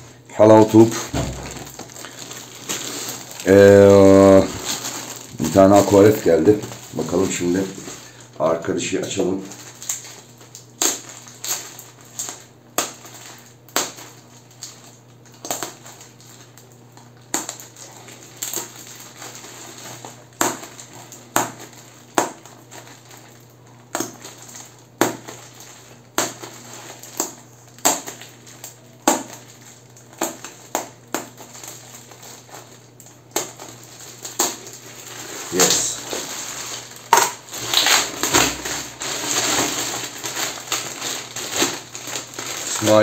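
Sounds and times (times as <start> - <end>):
parcel tearing and crumpling: 0.6 - 43.0.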